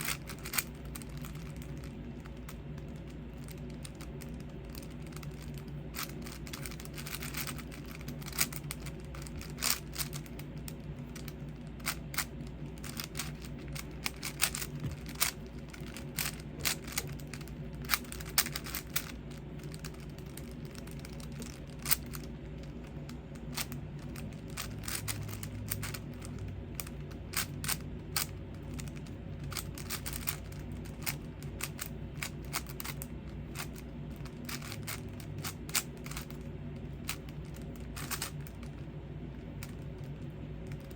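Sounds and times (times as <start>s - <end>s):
steady low hum: 0.0s - 40.9s
plastic puzzle cube clicking: 0.1s - 2.3s, 2.9s - 10.4s, 11.2s - 22.3s, 23.6s - 28.9s, 29.5s - 33.0s, 34.4s - 36.4s, 37.0s - 38.6s.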